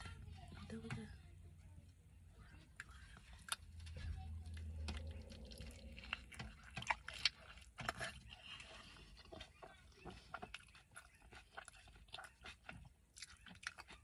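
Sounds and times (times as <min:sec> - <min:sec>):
chewing and mouth sounds: 0:02.8 - 0:14.0.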